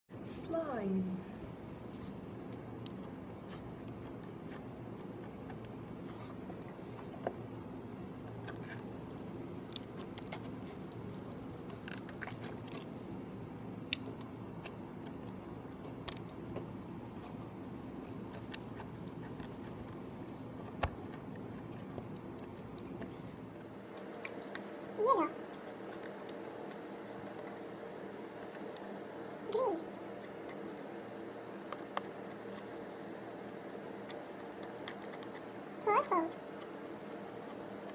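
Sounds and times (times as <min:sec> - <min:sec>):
steady low hum: 0:00.1 - 0:37.9.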